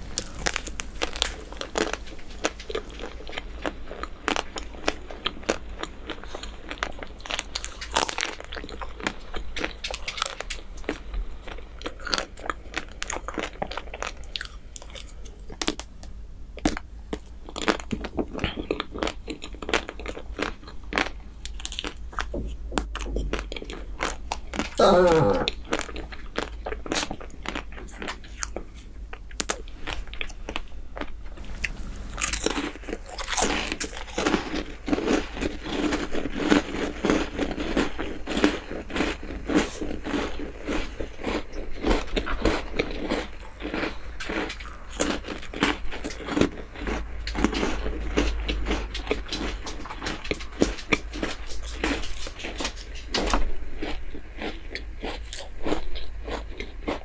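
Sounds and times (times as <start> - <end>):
close chewing: 0.0 - 57.0.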